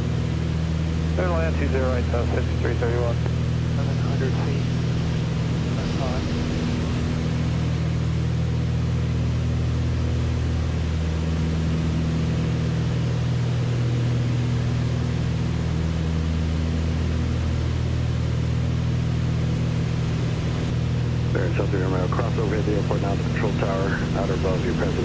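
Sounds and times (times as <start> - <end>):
propeller aircraft cabin drone: 0.0 - 25.0.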